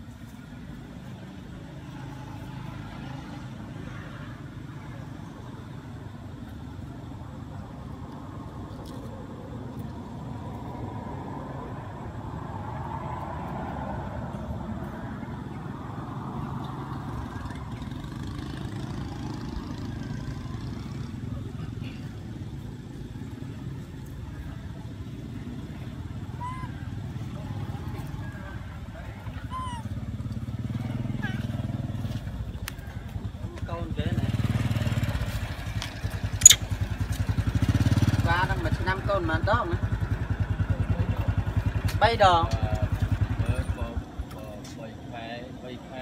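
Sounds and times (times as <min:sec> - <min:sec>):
low outdoor rumble: 0:00.0 - 0:46.0.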